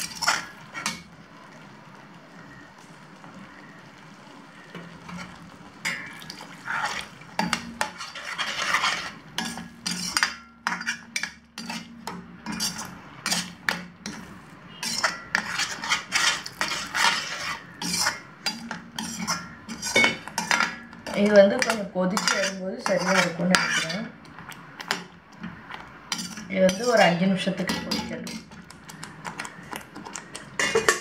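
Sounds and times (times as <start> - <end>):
spoon stirring and scraping pan: 0.0 - 1.2, 4.5 - 31.0.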